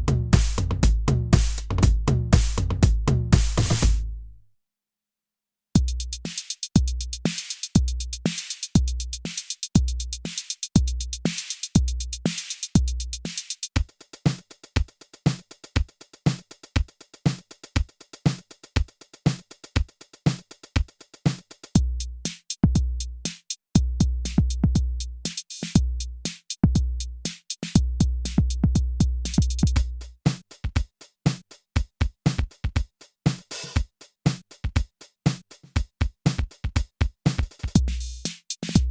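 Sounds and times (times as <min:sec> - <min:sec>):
drum machine kick drum: 0:00.0 - 0:04.3, 0:05.8 - 0:38.9
hi-hat ticks: 0:05.8 - 0:28.6, 0:29.3 - 0:38.9.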